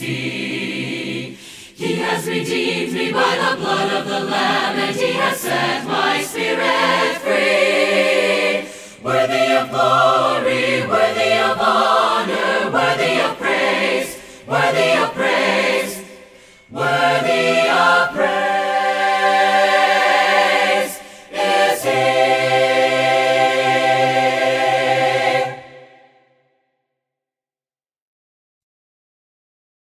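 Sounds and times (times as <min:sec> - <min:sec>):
choir singing in harmony: 0:00.0 - 0:26.5.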